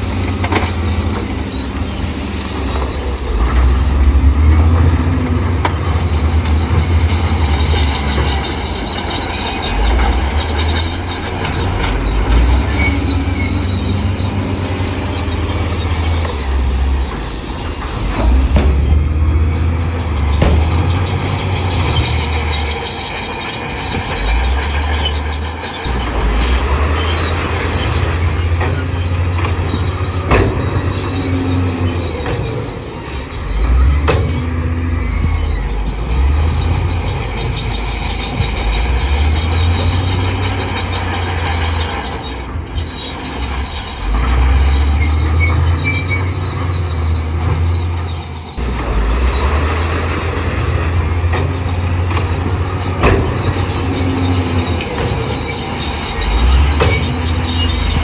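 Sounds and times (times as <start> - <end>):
bulldozer diesel engine rumbling: 0.0 - 58.0
steel tracks squealing and clanking: 0.0 - 58.0.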